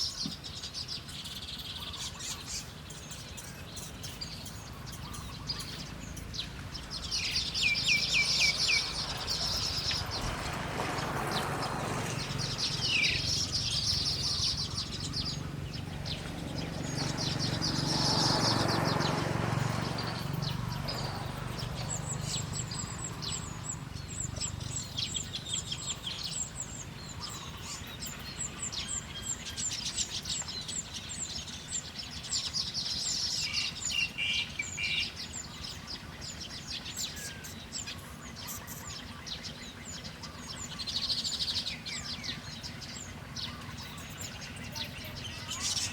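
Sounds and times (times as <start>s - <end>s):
songbirds chirping and trilling: 0.0s - 45.9s.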